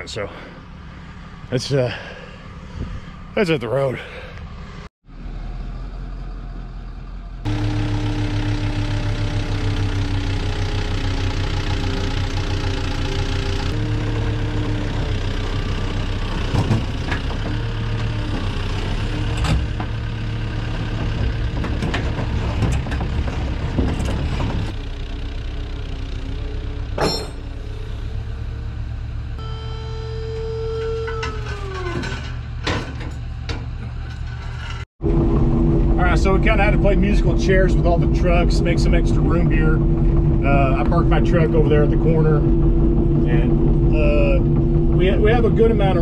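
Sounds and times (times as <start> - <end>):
heavy engine running: 0.0 - 46.0.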